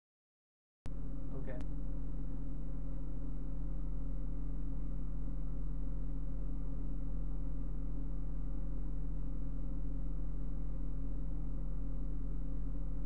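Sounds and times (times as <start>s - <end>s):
steady low hum: 0.9s - 13.0s.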